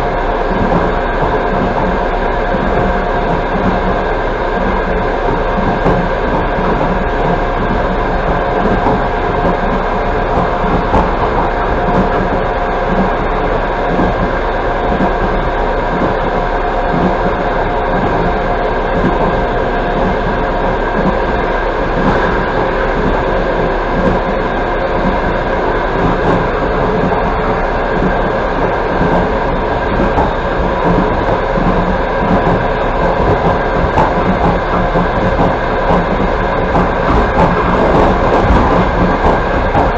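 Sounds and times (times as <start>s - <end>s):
train wheel-on-rail rumble: 0.0s - 39.9s.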